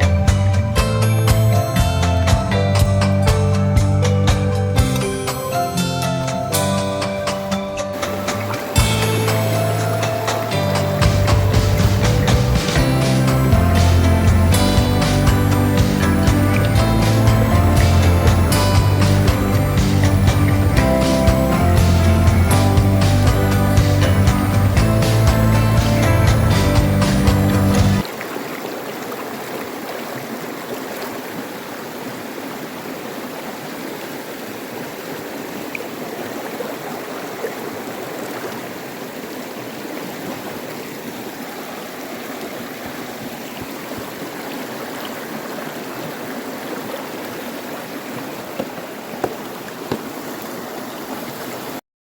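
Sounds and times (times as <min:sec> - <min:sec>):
stream running: 0:00.0 - 0:51.8.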